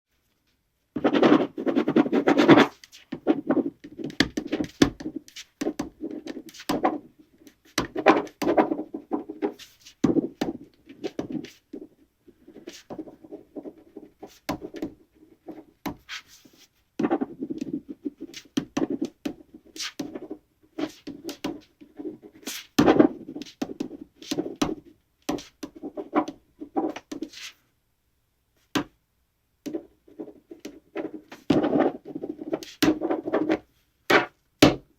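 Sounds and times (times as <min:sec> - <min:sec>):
pen scratching on paper: 0:01.0 - 0:27.6, 0:29.6 - 0:34.3.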